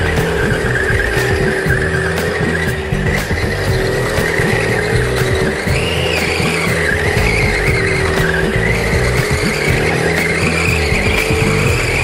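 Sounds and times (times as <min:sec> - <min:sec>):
toy car tyres squealing: 0:00.0 - 0:12.0.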